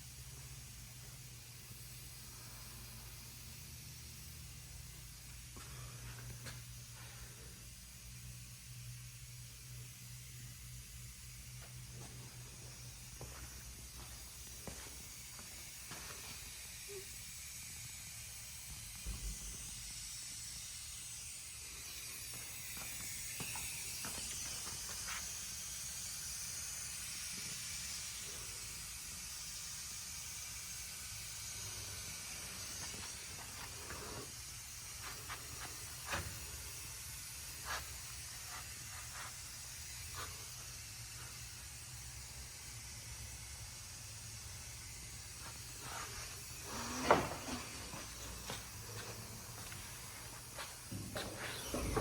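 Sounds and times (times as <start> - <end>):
compressed air hissing from nozzle: 0.0 - 52.0.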